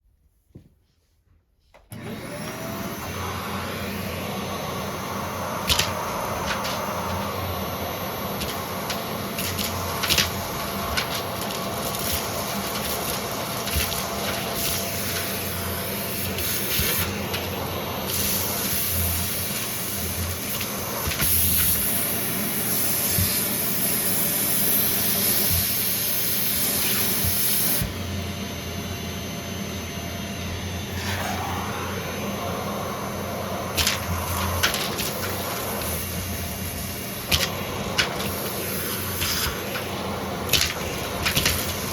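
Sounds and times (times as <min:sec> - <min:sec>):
vacuum cleaner motor hum: 0:01.8 - 0:41.9.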